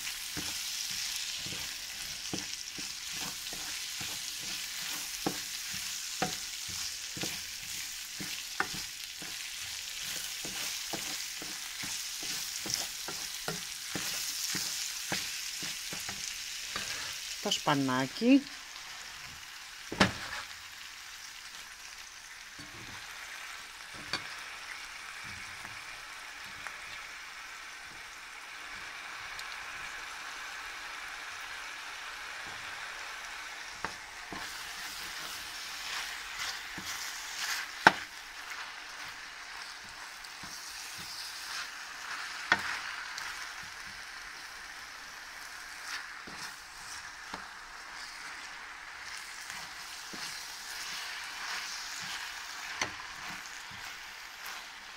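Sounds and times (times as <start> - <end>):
vegetables sizzling in frying pan: 0.0 - 54.9.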